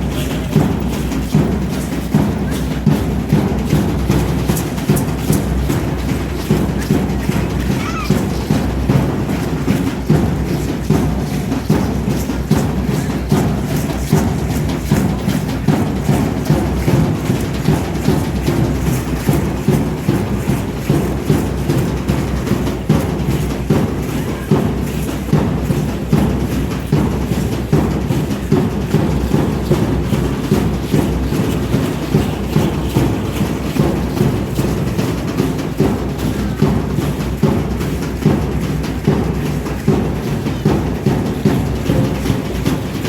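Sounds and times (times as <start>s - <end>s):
drum beaten in steady rhythm: 0.0s - 43.0s.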